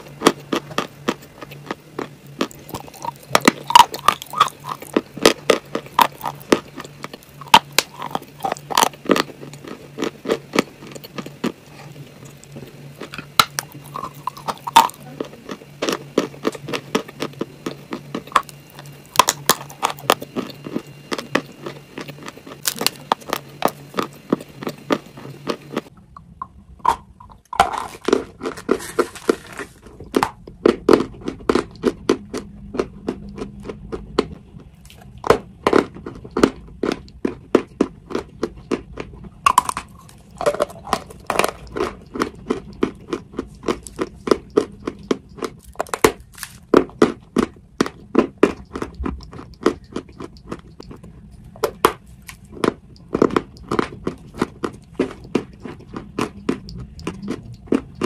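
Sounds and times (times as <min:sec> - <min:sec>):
crunching and chewing chalk: 0:00.0 - 0:58.0
low steady hum: 0:00.0 - 0:58.0.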